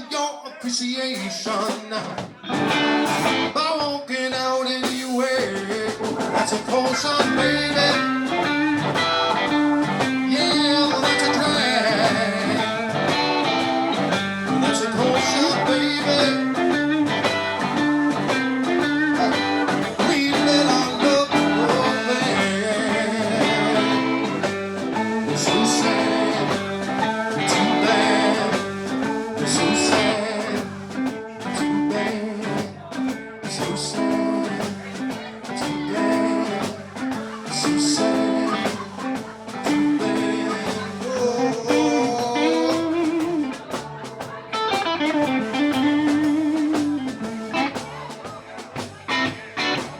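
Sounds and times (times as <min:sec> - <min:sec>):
blues-rock band playing: 0:01.1 - 0:49.9
lead guitar: 0:01.8 - 0:49.9.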